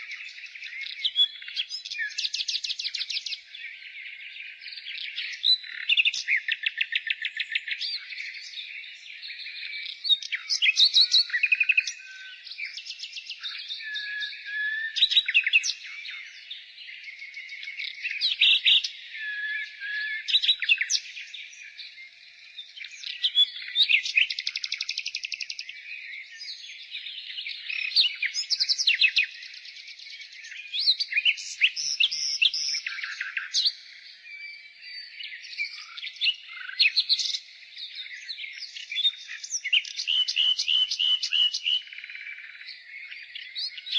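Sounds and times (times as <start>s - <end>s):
nightingale singing: 0.0s - 43.9s.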